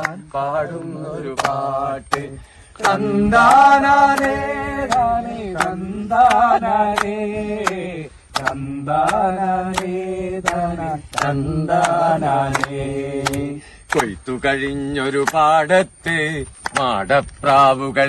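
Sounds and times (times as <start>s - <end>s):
person singing long chant-like notes: 0.0s - 18.0s.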